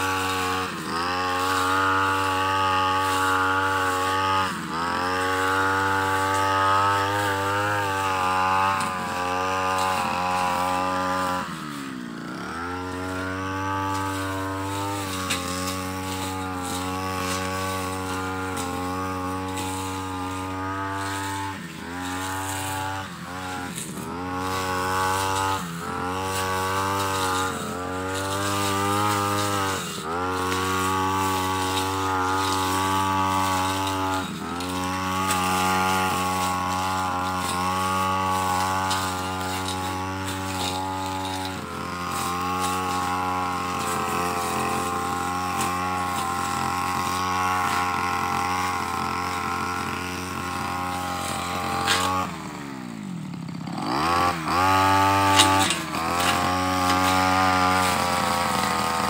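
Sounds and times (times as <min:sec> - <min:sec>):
brush cutter engine running: 0:00.0 - 0:59.0.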